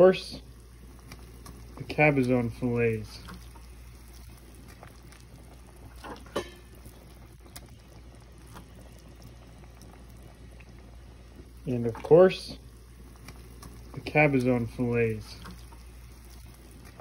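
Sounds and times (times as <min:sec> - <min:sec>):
broth bubbling faintly: 0:00.0 - 0:17.0.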